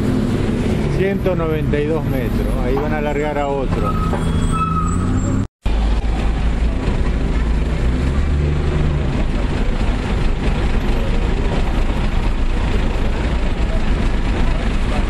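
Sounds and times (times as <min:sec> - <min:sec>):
road noise: 0:00.0 - 0:15.0
vehicle engines rumbling: 0:00.0 - 0:15.0.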